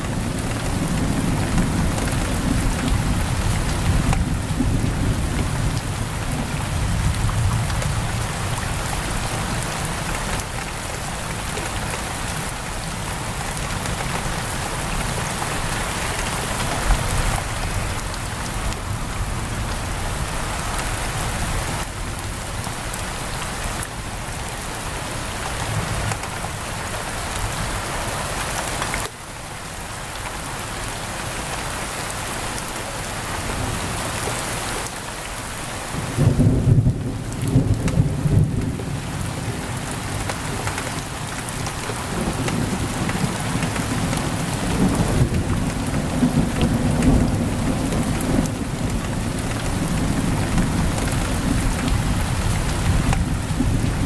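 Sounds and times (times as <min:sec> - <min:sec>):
heavy rain on a window: 0:00.0 - 0:54.0.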